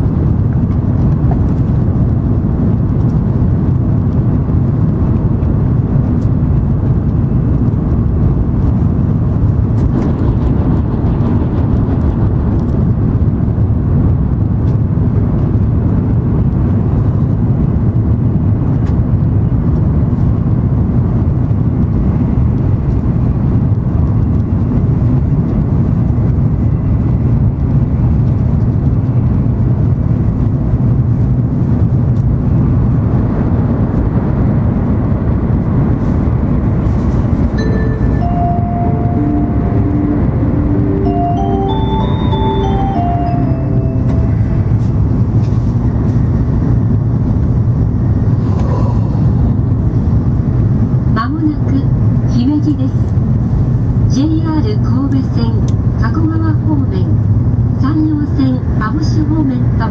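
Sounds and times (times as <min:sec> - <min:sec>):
train cabin running rumble: 0:00.0 - 0:59.9.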